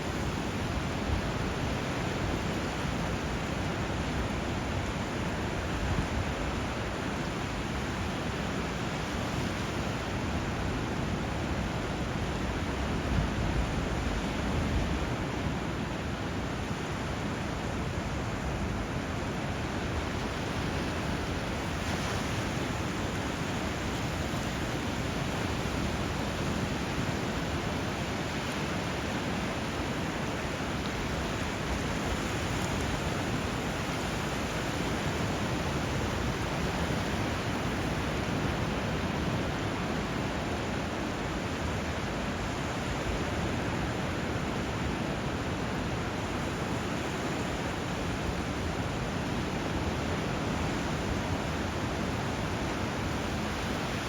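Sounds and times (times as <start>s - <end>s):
rushing river and surf: 0.0s - 54.0s.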